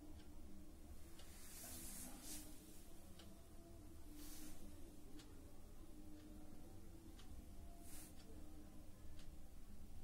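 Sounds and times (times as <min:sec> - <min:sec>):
soft ticks: 0:00.1 - 0:00.4, 0:01.0 - 0:03.4, 0:04.0 - 0:06.4, 0:07.1 - 0:10.0.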